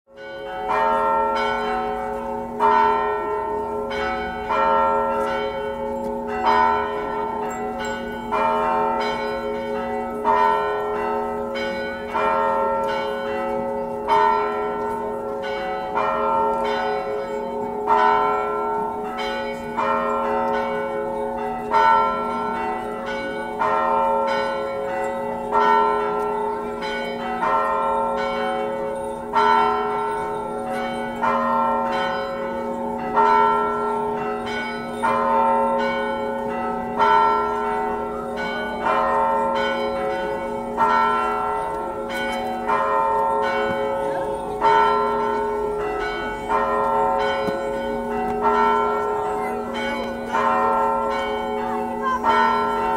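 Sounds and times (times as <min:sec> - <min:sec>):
church bells ringing a peal: 0:00.1 - 0:52.9.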